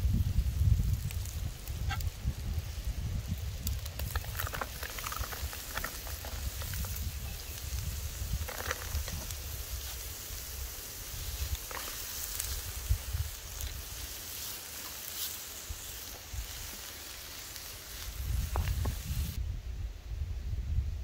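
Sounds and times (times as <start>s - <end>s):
food sizzling in a frying pan: 0.0s - 19.4s.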